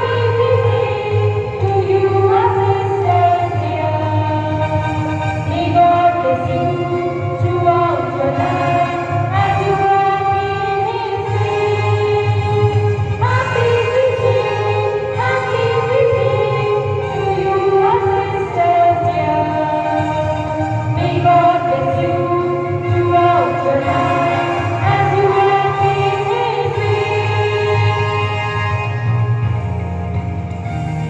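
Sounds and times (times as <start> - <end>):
female choir singing: 0.0 - 28.6
low steady accompaniment: 0.0 - 31.0.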